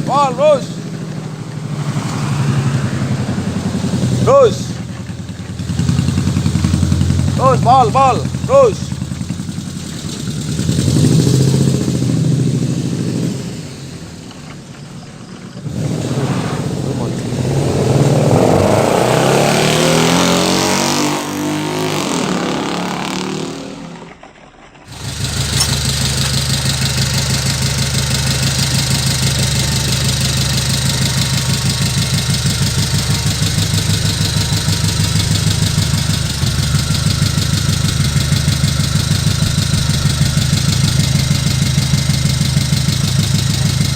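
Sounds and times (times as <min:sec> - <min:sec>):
truck engine revving and idling: 0:00.0 - 0:43.9.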